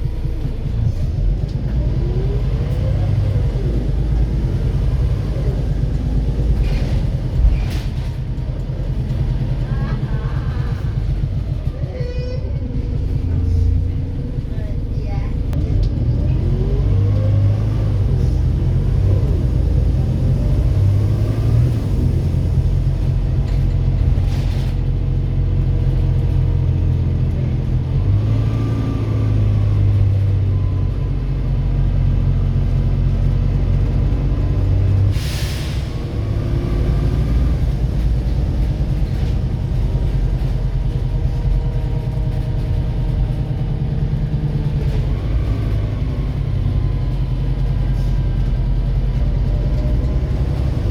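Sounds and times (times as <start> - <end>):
bus diesel engine pulling: 0.0 - 50.9.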